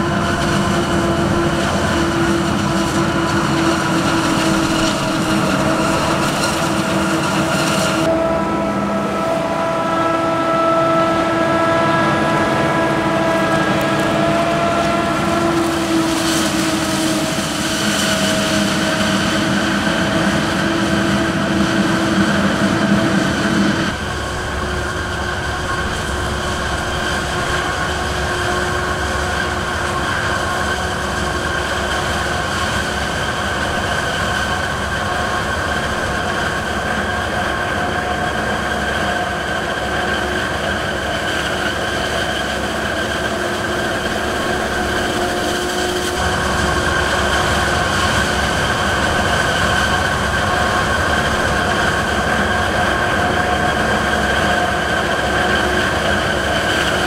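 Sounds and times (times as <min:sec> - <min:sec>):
harvester mechanical drone: 0:00.0 - 0:57.0
high mechanical whine: 0:00.0 - 0:57.0.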